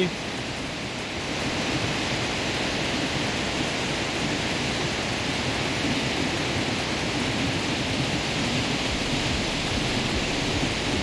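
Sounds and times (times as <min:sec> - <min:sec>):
steady rain: 0:00.0 - 0:11.0
surf breaking on shore: 0:00.0 - 0:11.0.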